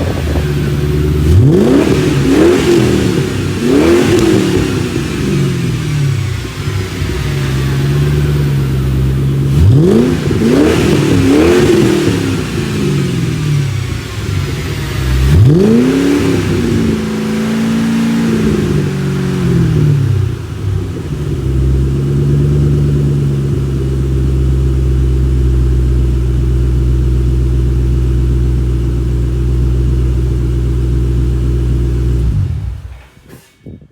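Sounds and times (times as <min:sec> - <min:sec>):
car engine revving and idling: 0:00.0 - 0:33.2.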